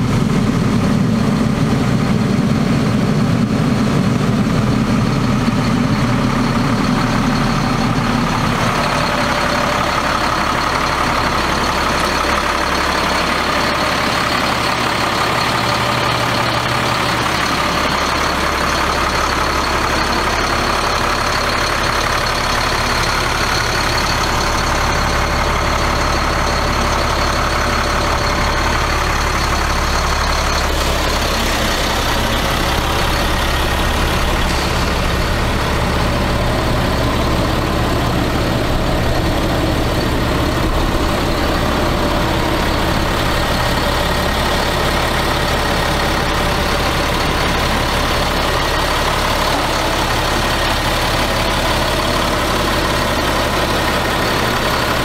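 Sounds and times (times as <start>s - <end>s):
truck diesel engine idling: 0.0s - 55.0s.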